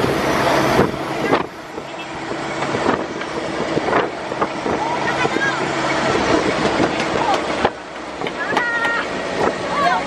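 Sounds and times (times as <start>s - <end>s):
broad rushing noise: 0.0s - 10.0s
vehicle engine running: 0.0s - 10.0s.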